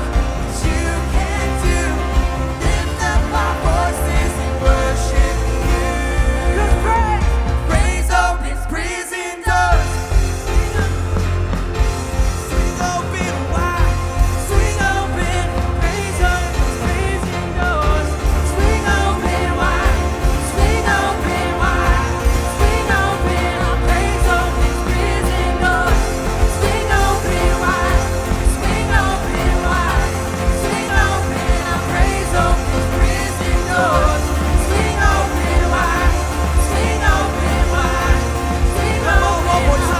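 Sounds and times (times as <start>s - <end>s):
singers leading vocals: 0.0s - 39.9s
worship band playing: 0.0s - 39.9s.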